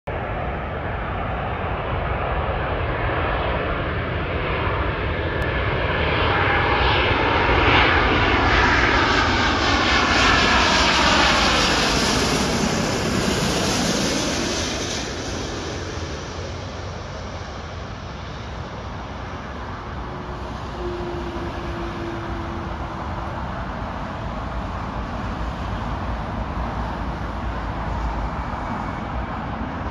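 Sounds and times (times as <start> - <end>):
jet engines roaring overhead: 0.1 - 29.9.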